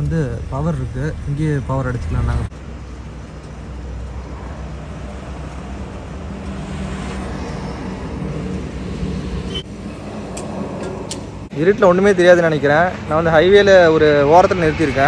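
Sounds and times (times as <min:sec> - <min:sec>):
engine rumble: 0:00.0 - 0:15.0
tyre and road hiss: 0:02.6 - 0:15.0.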